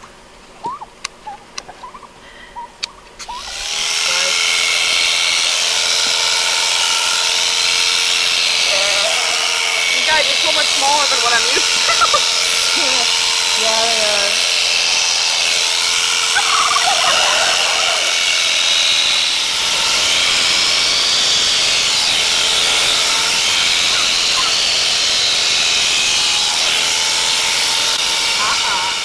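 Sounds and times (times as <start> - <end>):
electric shears buzzing: 3.2 - 29.0.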